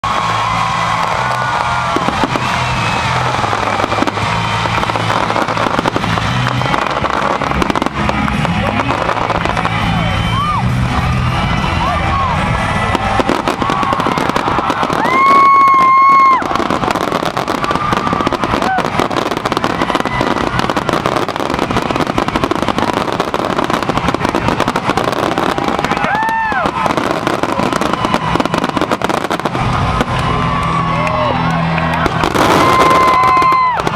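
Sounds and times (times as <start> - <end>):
background music: 0.0 - 33.9
firework bangs and crackles: 0.0 - 33.9.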